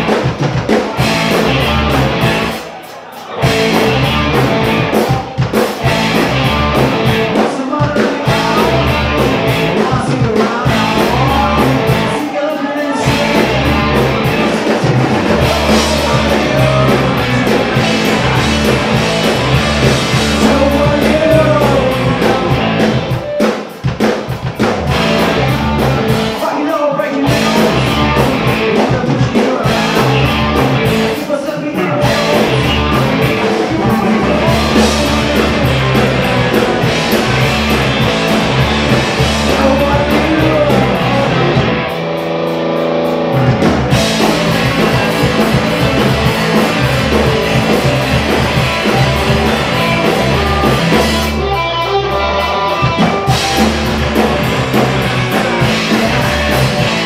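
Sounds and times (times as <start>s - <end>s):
bass guitar: 0.0s - 57.0s
drum kit: 0.0s - 57.0s
electric guitars: 0.0s - 57.0s
person singing: 6.5s - 23.6s, 25.1s - 41.8s, 43.9s - 57.0s.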